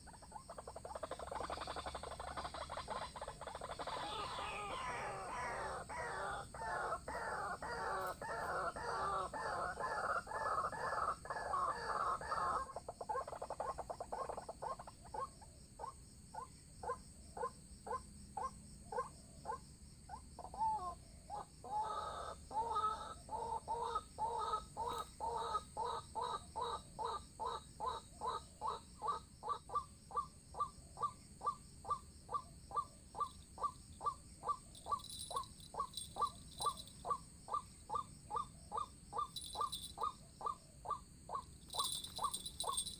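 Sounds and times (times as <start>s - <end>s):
waterhens croaking: 0.0s - 15.2s, 20.6s - 29.8s, 31.4s - 42.9s.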